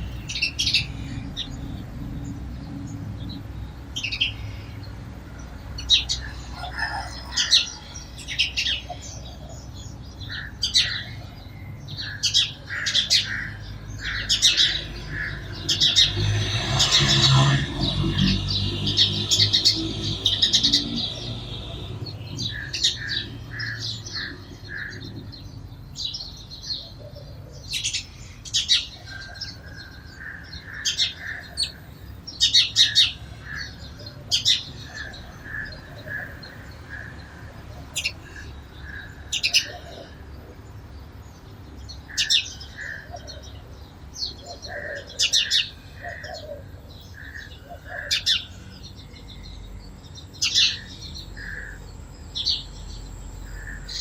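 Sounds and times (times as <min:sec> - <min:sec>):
sparrows chirping: 0:00.0 - 0:54.0.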